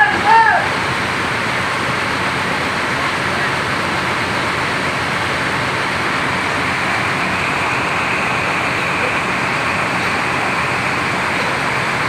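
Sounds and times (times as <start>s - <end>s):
diesel bus engines droning: 0.0s - 12.0s.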